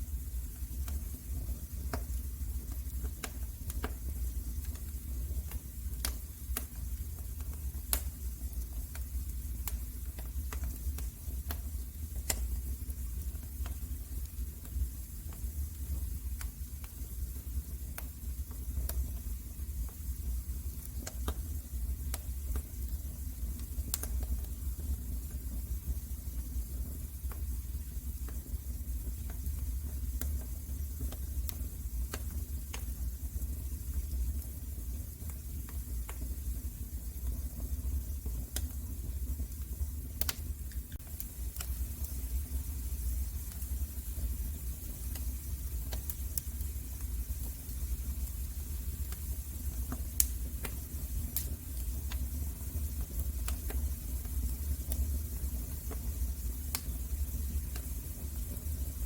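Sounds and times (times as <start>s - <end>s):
soft hiss: 0.0s - 59.0s
wood fire crackling: 0.0s - 59.0s.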